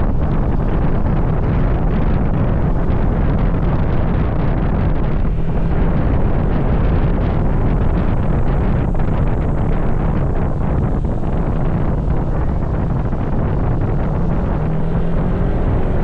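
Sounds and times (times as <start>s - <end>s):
low engine and road rumble: 0.0s - 16.0s
wind buffeting microphone: 0.0s - 16.0s.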